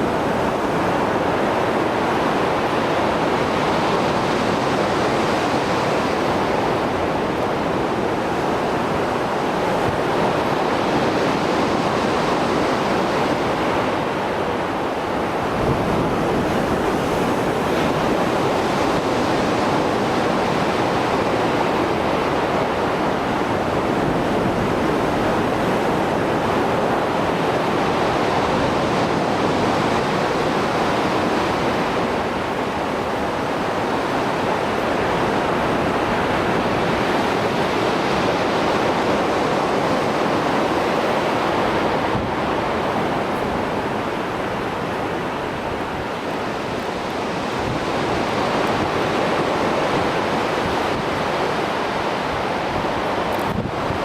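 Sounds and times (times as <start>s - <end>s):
sea waves breaking on shore: 0.0s - 54.0s
wind on microphone: 0.0s - 54.0s.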